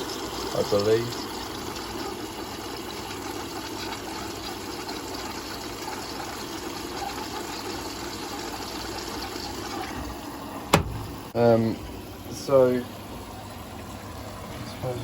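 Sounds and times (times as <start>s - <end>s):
washing machine filling with water: 0.0s - 15.0s.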